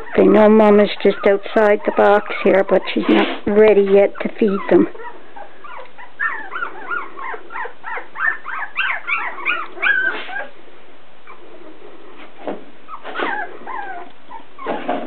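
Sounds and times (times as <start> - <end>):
puppies whining and squealing: 0.0 - 10.6, 11.2 - 15.0.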